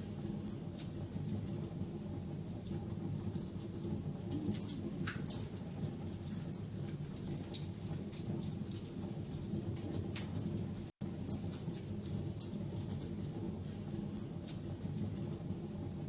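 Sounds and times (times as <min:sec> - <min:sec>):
fire crackling: 0:00.0 - 0:16.0
low rumble of fire: 0:00.0 - 0:16.0.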